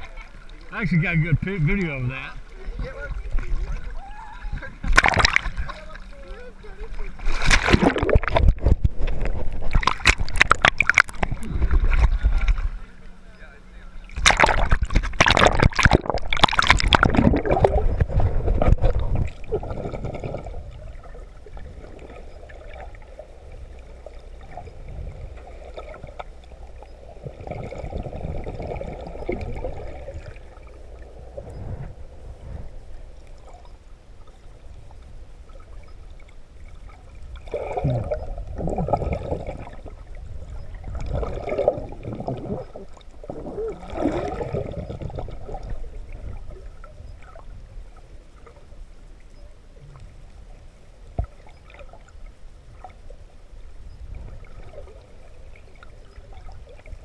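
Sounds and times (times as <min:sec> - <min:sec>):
underwater splashing: 0:00.0 - 0:13.2, 0:13.9 - 0:57.0
underwater rumbling slosh and gurgle: 0:00.0 - 0:57.0.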